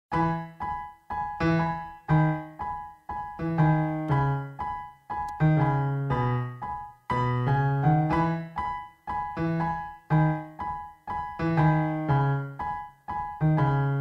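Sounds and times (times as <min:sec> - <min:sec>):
light keyboard melody: 0:00.1 - 0:14.0.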